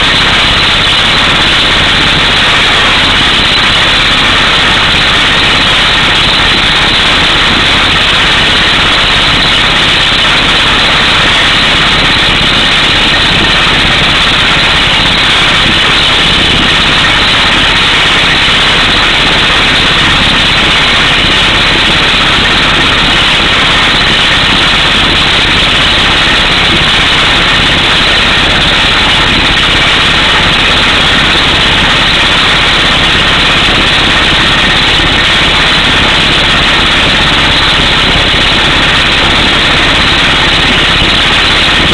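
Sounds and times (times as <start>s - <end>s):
air hammer drilling rock: 0.0s - 41.9s
truck engine running: 0.0s - 41.9s.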